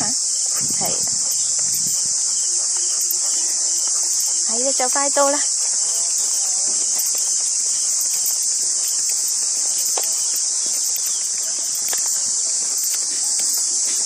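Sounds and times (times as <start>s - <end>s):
footstep clicks: 0.0s - 14.0s
high-pitched insect chorus: 0.0s - 14.0s.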